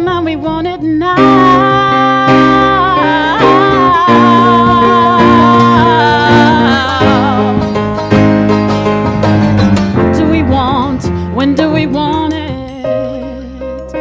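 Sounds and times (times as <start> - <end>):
woman singing with vibrato: 0.0 - 8.8, 9.8 - 14.0
guitar accompaniment: 0.0 - 14.0.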